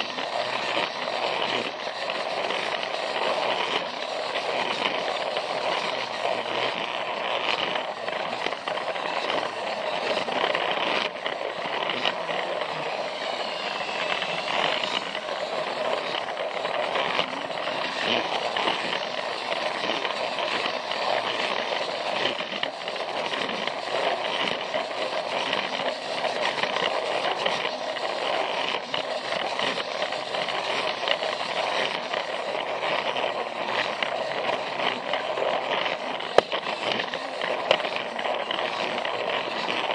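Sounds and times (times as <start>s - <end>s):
plastic wheels rattling on rails: 0.0s - 39.9s
toy train motor whirring: 0.0s - 39.9s.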